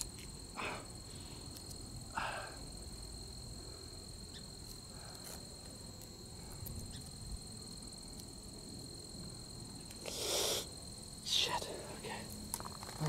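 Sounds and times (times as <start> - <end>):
high-pitched insect trill: 0.0 - 13.0
higher insect trill: 0.0 - 13.0.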